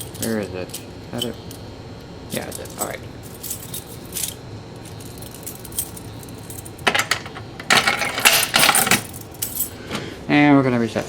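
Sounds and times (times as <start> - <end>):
keys jangling: 0.0 - 1.6, 2.4 - 9.8.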